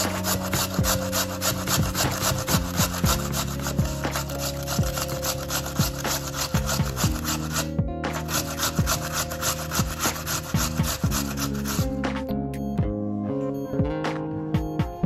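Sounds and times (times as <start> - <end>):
potato scraped on grater: 0.0 - 12.2
soft background music: 0.0 - 15.0.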